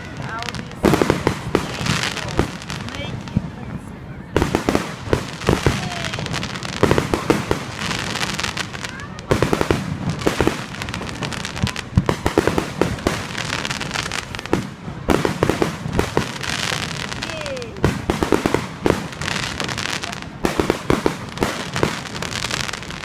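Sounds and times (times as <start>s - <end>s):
fireworks crackling bangs: 0.0s - 23.0s.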